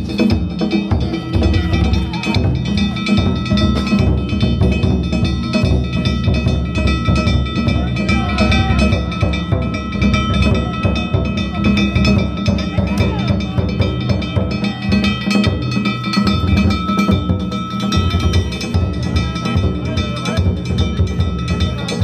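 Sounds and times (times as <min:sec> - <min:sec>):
metal hand gongs clanging: 0:00.0 - 0:22.0
taiko drums beaten fast: 0:00.0 - 0:22.0.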